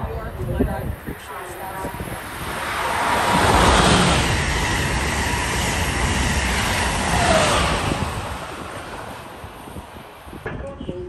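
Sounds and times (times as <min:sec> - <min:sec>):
train passing at speed: 0:00.0 - 0:10.4.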